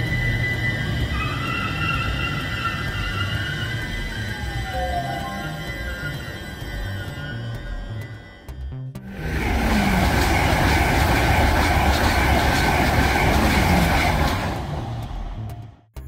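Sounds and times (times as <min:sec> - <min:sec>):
electric train passing: 0:00.0 - 0:15.8.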